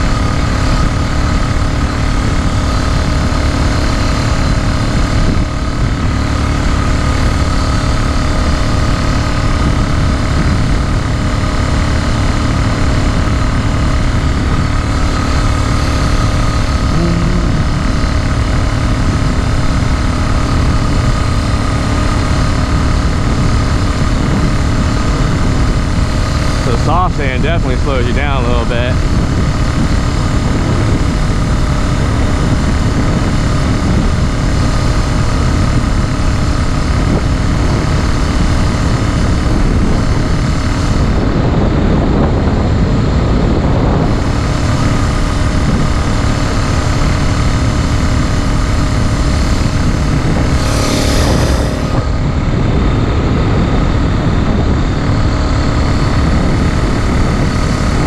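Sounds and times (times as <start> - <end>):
small motorbike engine running: 0.0 - 58.0.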